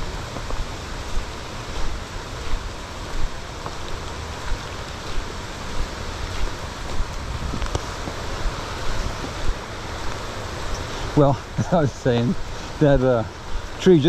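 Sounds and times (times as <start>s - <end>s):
rain hissing: 0.0s - 14.0s
wind rumbling on microphone: 0.0s - 14.0s.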